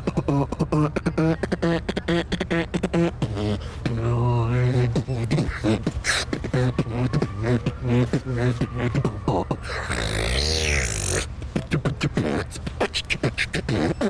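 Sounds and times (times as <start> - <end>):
man beatboxing: 0.0 - 14.0.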